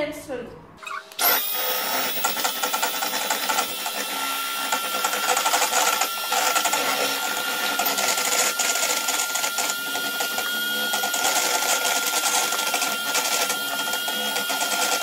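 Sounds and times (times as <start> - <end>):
electric hand whisk whining: 0.8 - 15.0.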